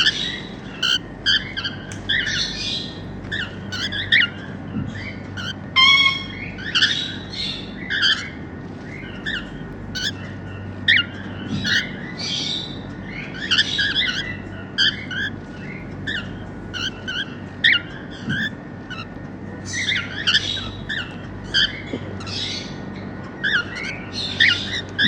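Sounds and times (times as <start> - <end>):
cockatiels chirping and squawking: 0.0 - 4.4, 5.0 - 22.8, 23.4 - 25.0.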